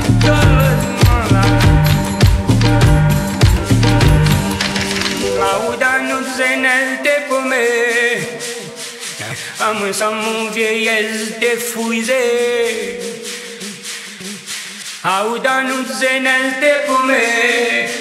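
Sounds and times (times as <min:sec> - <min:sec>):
shaker rhythm: 0:00.0 - 0:18.0
wavering sung vocal line: 0:00.0 - 0:18.0.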